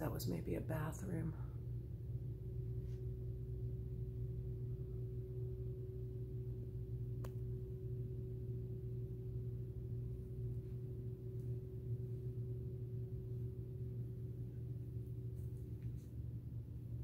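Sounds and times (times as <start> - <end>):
faint steady tone: 0.0 - 17.0
low machine hum: 0.0 - 17.0.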